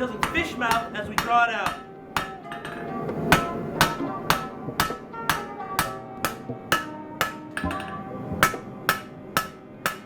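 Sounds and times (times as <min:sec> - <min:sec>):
hammer ringing on steel and anvil: 0:00.0 - 0:02.7, 0:03.4 - 0:10.0.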